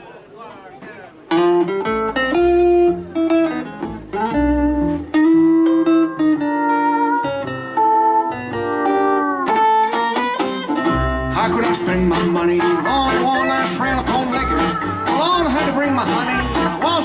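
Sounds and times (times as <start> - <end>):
country band playing: 1.2 - 17.0.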